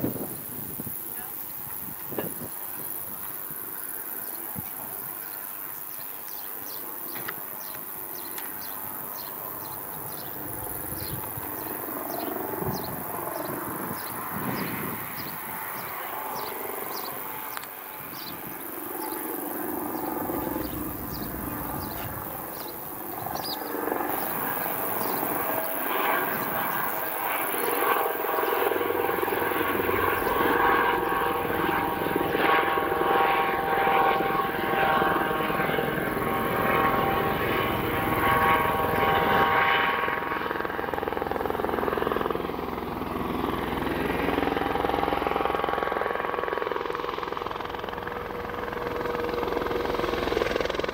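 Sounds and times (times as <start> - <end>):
helicopter rotor and turbine: 0.0 - 50.9
whining turbine tones: 0.0 - 50.9.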